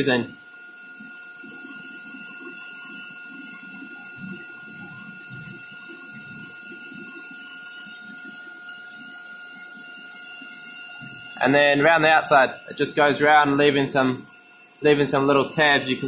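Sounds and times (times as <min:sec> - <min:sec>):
fluttering cutting noise: 0:00.0 - 0:16.0
milling machine whining: 0:00.0 - 0:16.0.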